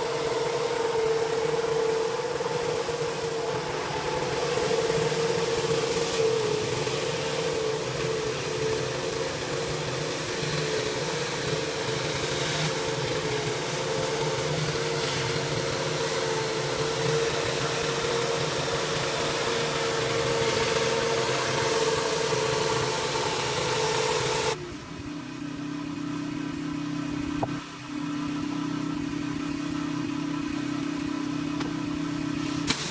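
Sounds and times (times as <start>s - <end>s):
pressure washer engine running: 0.0s - 32.9s.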